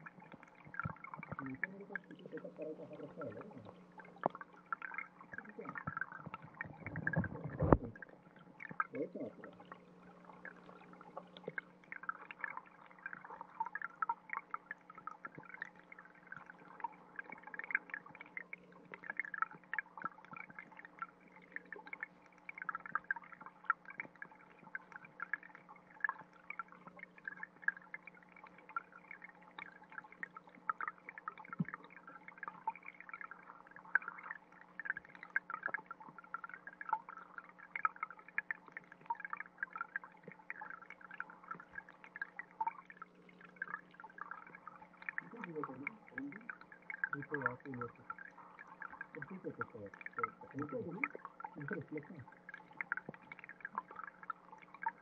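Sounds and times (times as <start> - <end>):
faint low hum: 0.0 - 55.0
stream water bubbling underwater: 0.0 - 55.0.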